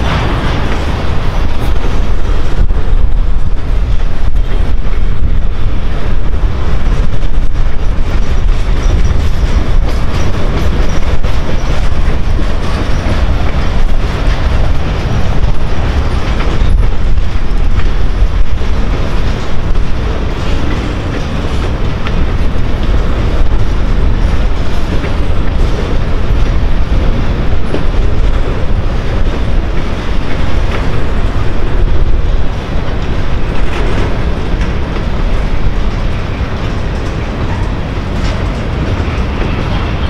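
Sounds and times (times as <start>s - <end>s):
freight train wheels rumbling: 0.0s - 40.0s
wheels clicking over rail joints: 0.0s - 40.0s.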